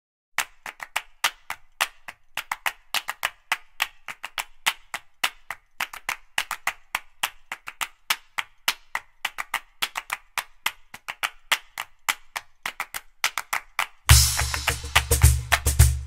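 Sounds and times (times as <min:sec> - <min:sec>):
hand claps beat: 0:00.4 - 0:16.0.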